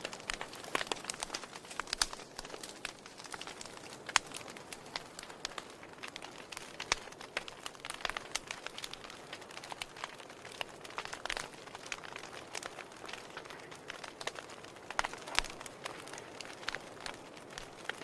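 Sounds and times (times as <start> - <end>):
fire crackling and popping: 0.0 - 18.0
wood fire hissing: 0.0 - 18.0.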